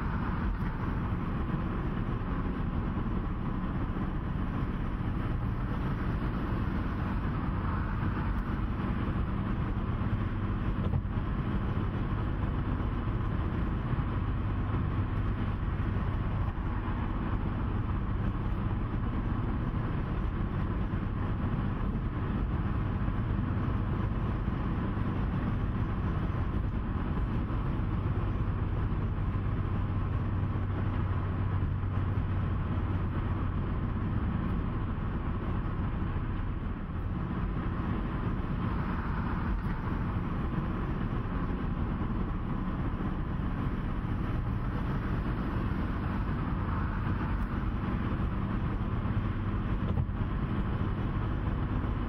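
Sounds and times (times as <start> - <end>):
vehicle engine hum: 0.0 - 52.0.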